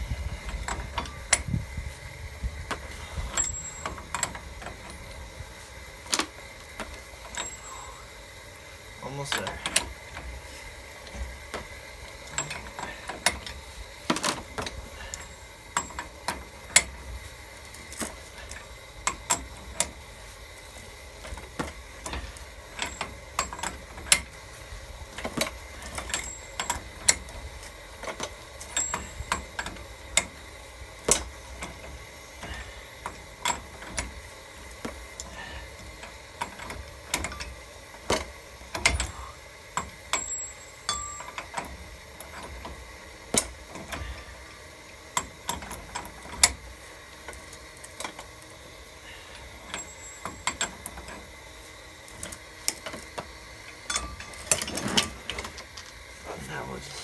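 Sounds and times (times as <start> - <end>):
hand ratchet clicking: 0.0 - 8.2, 9.2 - 48.5.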